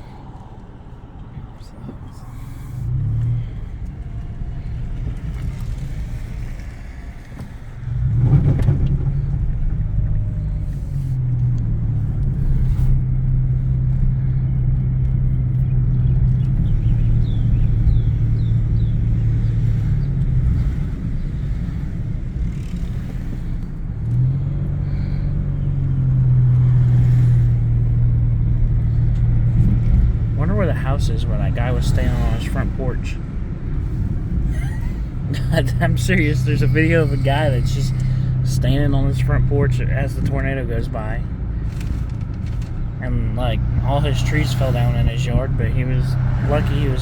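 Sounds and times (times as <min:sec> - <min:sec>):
car engine hum: 0:00.0 - 0:47.0
road noise inside car: 0:00.0 - 0:47.0.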